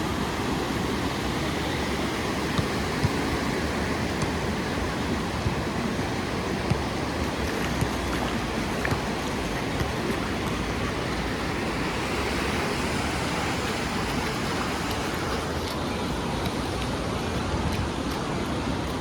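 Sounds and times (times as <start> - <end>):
sea surf breaking on beach: 0.0 - 19.0.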